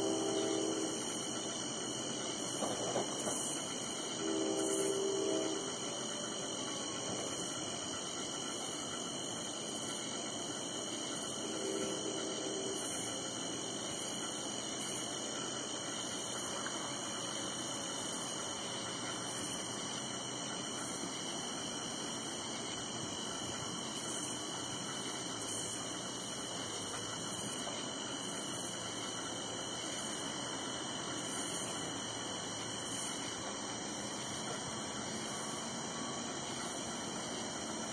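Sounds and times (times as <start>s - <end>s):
faint regular pulsing: 0.0s - 37.9s
insect chorus: 0.0s - 37.9s.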